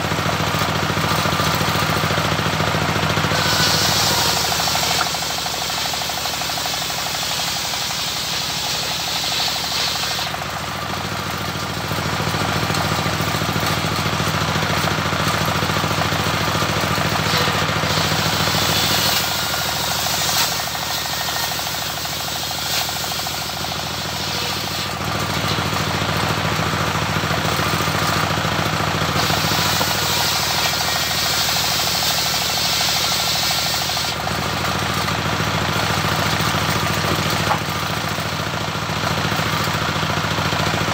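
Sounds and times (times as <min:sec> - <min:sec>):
circular saw cutting wood: 0:00.0 - 0:40.9
diesel engine clattering: 0:00.0 - 0:40.9.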